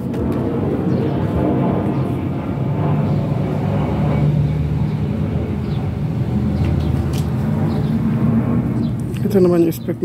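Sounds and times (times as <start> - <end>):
low mechanical drone: 0.0 - 10.0.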